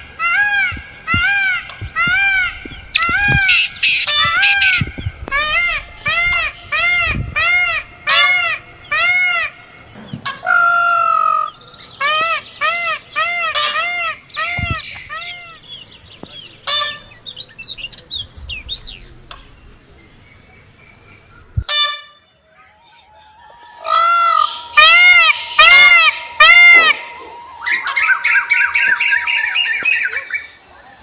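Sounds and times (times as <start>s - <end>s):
birds calling: 0.0s - 22.3s, 23.0s - 31.0s.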